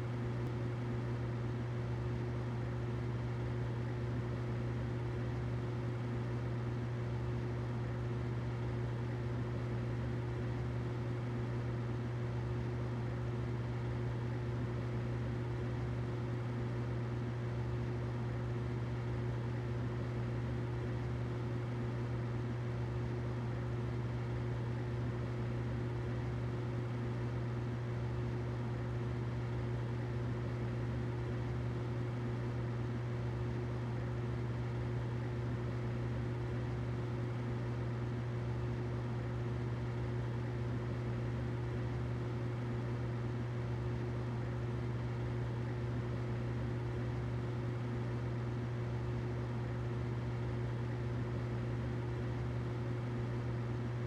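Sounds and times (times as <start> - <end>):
humidifier humming: 0.0 - 54.0.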